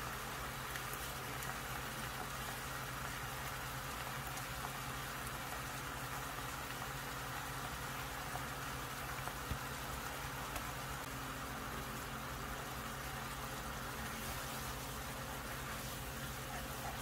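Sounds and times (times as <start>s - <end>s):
low steady hum: 0.0s - 17.0s
sauce bubbling and sizzling in a pan: 0.0s - 17.0s.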